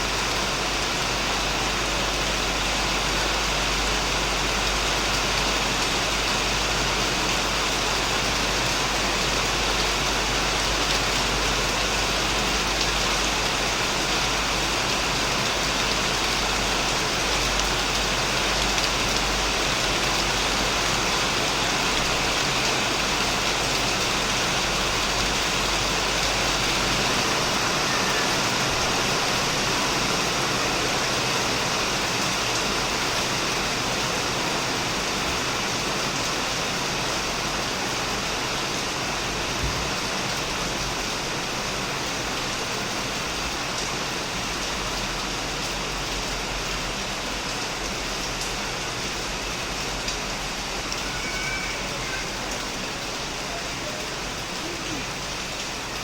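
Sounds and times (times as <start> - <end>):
heavy rain on a shed: 0.0 - 56.0.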